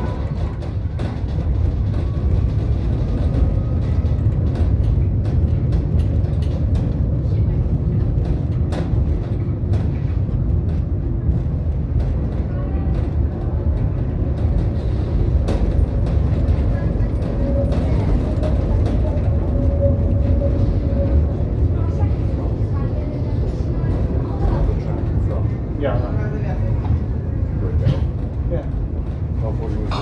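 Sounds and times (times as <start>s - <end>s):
tram rumbling on rails: 0.0s - 30.0s.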